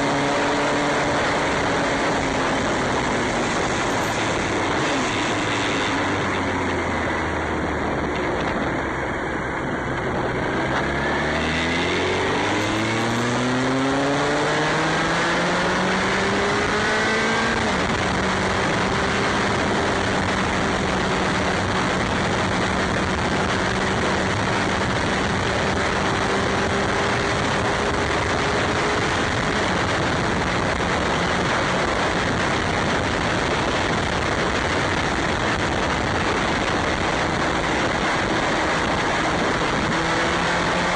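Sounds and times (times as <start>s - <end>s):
motorcycle engine accelerating: 0.0s - 40.9s
wind rushing: 0.0s - 40.9s.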